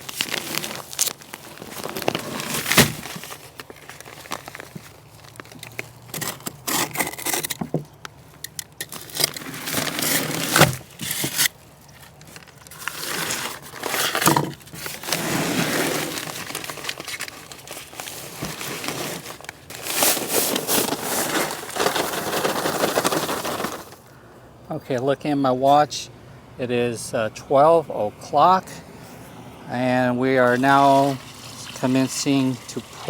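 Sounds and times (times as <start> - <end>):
paper sack crinkling and tearing: 0.0 - 24.1, 30.4 - 33.0.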